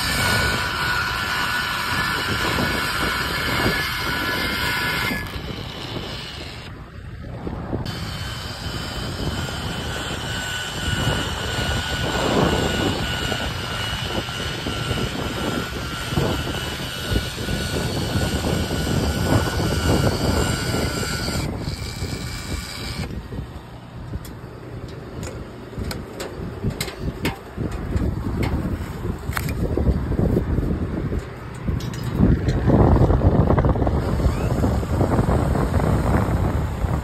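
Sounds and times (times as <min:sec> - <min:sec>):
mechanical whine: 0:00.0 - 0:37.0
outdoor rumble: 0:00.0 - 0:37.0
wind on microphone: 0:00.0 - 0:37.0.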